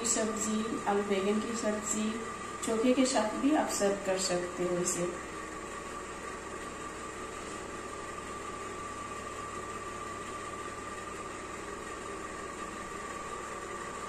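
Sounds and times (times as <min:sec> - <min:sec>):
thin steady whine: 0:00.0 - 0:14.0.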